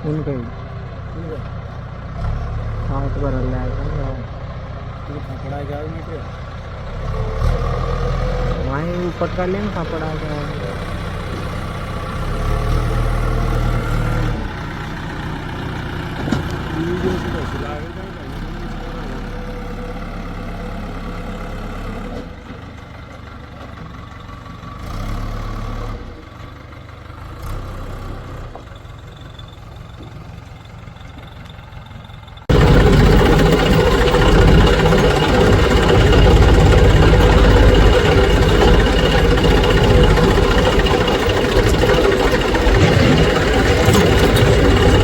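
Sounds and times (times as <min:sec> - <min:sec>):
diesel machinery engines running: 0:00.0 - 0:27.4, 0:28.4 - 0:45.0
loud close engine running: 0:00.0 - 0:28.6, 0:29.6 - 0:45.0.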